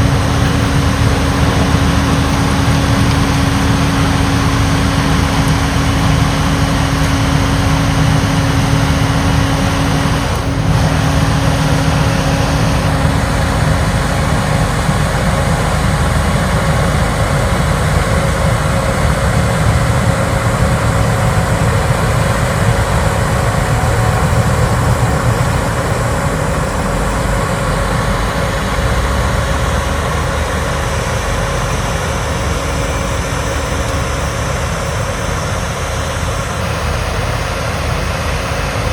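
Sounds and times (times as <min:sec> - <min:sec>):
snow blower running: 0:00.0 - 0:38.9.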